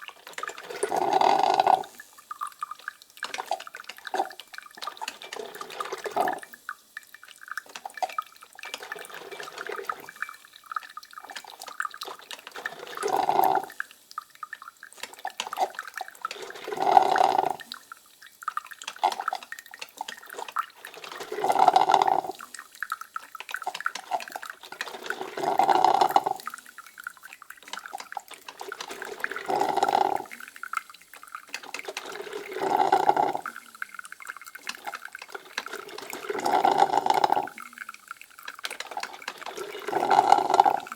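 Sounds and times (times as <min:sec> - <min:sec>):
coffee machine gurgling: 0:00.0 - 0:40.9
dripping and crackling: 0:00.0 - 0:40.9.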